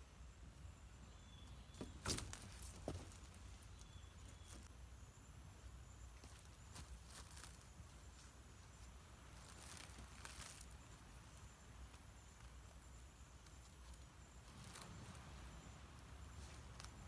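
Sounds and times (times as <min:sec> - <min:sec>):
soft rustles or taps: 0:01.4 - 0:04.7, 0:06.2 - 0:17.0.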